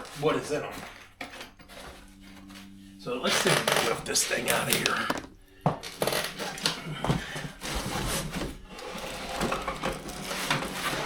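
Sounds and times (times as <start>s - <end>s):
packing rustling and scraping: 0.0s - 11.0s.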